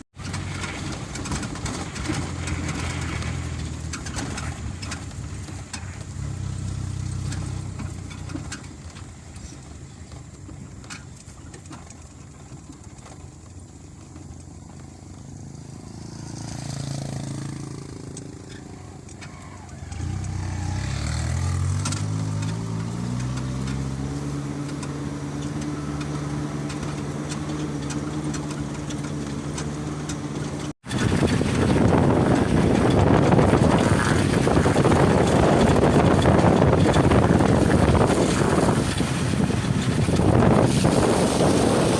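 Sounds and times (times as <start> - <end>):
vehicle engine revving: 0.0 - 41.9.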